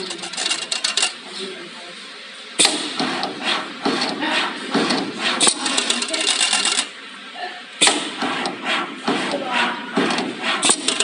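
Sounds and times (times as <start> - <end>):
machine metallic clicking and clattering: 0.0 - 1.3, 2.6 - 7.0, 7.8 - 11.0
sharp machine clack: 0.0 - 1.3, 2.6 - 7.1, 7.8 - 11.0.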